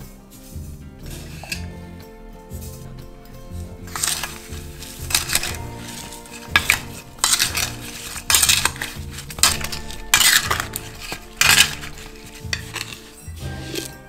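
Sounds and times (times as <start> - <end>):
soft background music: 0.0 - 14.0
wooden spoon scraping steel bowl: 0.4 - 14.0.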